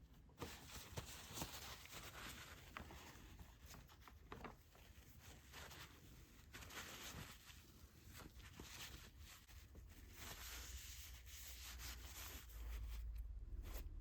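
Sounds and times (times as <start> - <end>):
paper towel rubbing: 0.4 - 14.0.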